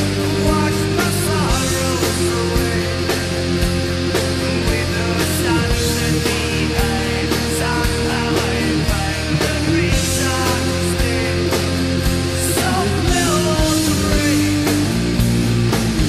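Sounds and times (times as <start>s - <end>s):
electric guitar lead melody: 0.0s - 16.0s
rock backing track: 0.0s - 16.0s.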